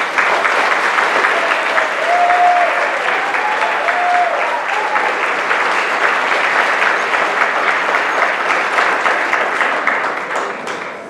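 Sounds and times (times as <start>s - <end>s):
large audience clapping: 0.0s - 11.0s.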